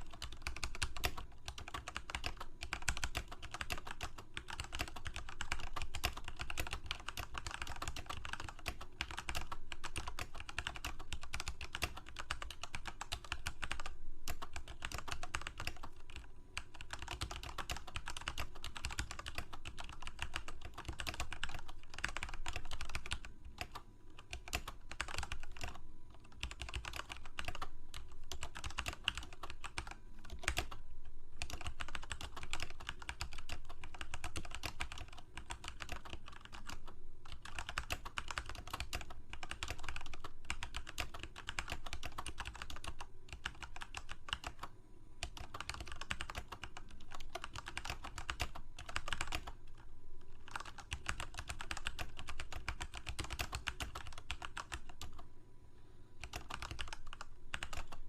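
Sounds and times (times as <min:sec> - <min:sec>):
typing on computer keyboard: 0:00.0 - 0:30.8, 0:31.4 - 0:55.2, 0:56.2 - 0:58.0.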